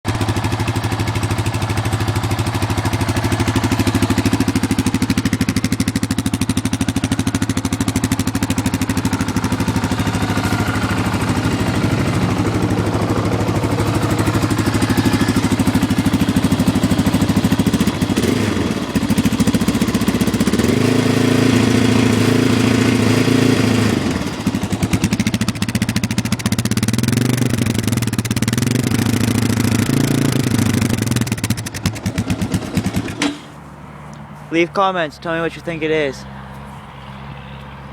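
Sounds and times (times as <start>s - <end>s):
engine idling and revving: 0.1s - 37.9s.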